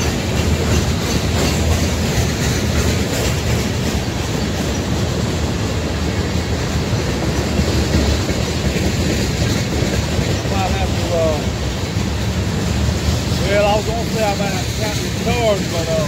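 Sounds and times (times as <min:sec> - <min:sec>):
freight train rumbling past: 0:00.0 - 0:16.0
steel wheels clattering on rails: 0:00.0 - 0:16.0.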